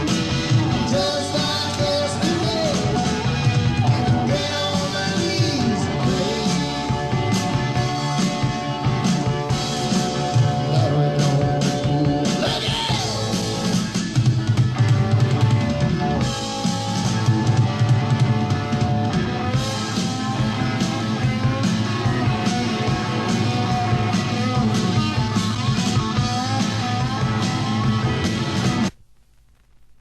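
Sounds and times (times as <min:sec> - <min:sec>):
electric guitar: 0:00.0 - 0:28.9
rock band playing: 0:00.0 - 0:28.9
drum kit: 0:00.0 - 0:29.0.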